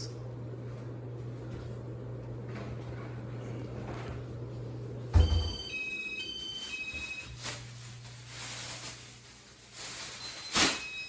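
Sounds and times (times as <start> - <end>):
ceiling fan motor humming: 0.0 - 11.0.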